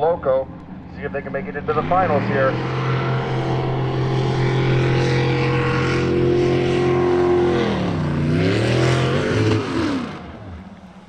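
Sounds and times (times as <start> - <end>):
boat engine revving: 0.2 - 11.0.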